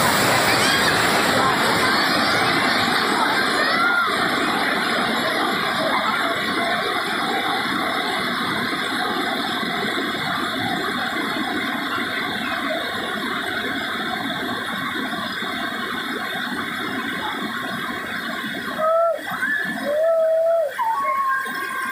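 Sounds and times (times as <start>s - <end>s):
river rapids rushing over rock: 0.0s - 21.9s.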